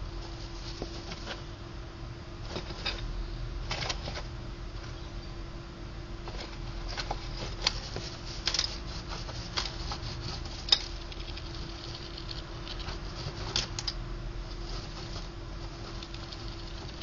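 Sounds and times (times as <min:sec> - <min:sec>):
gerbil nibbling and scratching: 0:00.0 - 0:01.5, 0:02.4 - 0:03.0, 0:03.7 - 0:04.9, 0:06.2 - 0:17.0
faint steady hum: 0:00.0 - 0:17.0.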